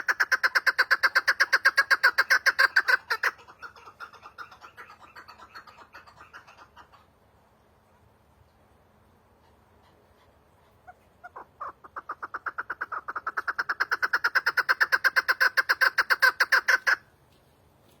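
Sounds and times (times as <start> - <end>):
partridge calling: 0.0 - 7.1, 9.4 - 17.0.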